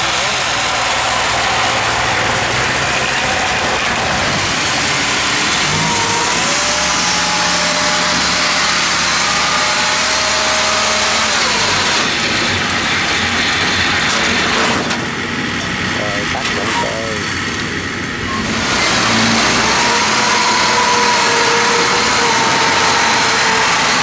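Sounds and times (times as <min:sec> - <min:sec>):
steady engine note: 0:00.0 - 0:24.0
tracked machine engines running: 0:00.0 - 0:24.0.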